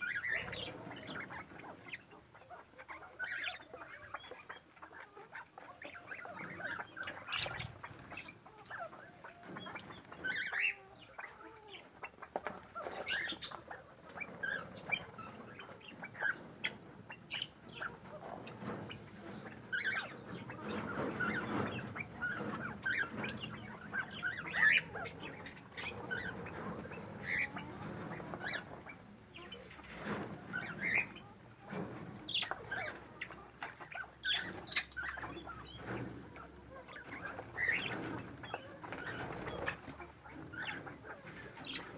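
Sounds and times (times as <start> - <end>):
flock of birds chirping and calling: 0.0 - 41.9.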